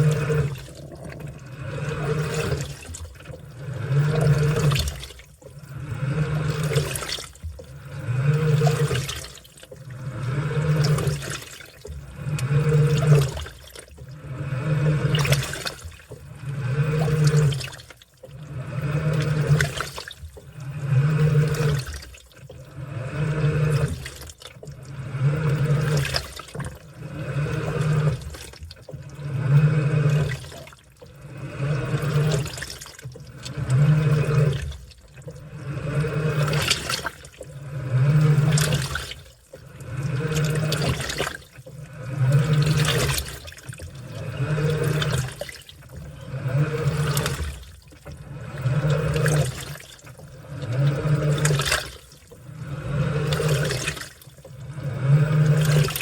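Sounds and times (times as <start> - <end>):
washing machine motor hum: 0.0 - 56.0
water sloshing through laundry: 0.0 - 56.0.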